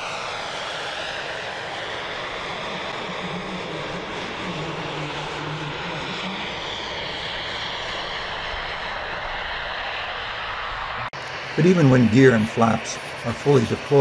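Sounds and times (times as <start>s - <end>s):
low hum: 0.0s - 14.0s
model jet engine whine: 0.0s - 14.0s
steady rushing noise: 0.0s - 14.0s.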